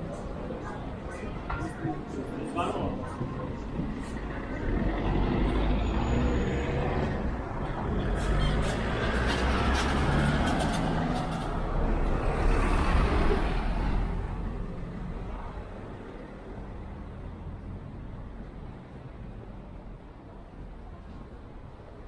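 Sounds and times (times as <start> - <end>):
heavy vehicle engine rumbling: 0.0 - 22.0.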